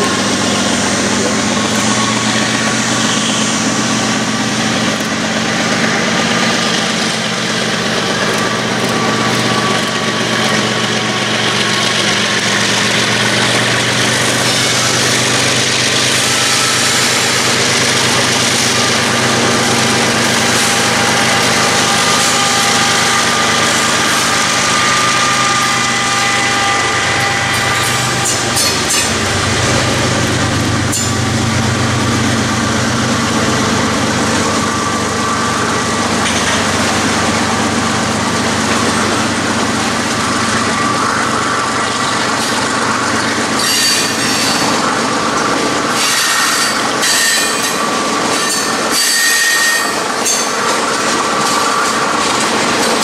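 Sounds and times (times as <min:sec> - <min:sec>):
diesel locomotive engines: 0:00.0 - 0:53.0.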